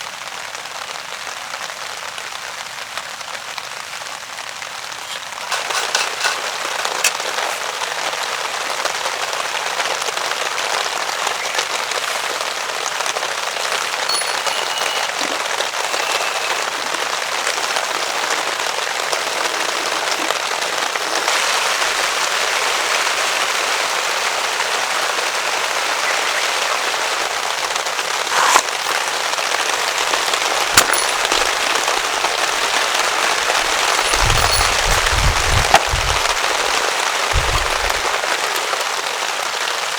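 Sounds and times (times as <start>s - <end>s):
heavy rain on a tarp: 0.0s - 14.1s, 15.2s - 30.8s, 34.0s - 39.9s.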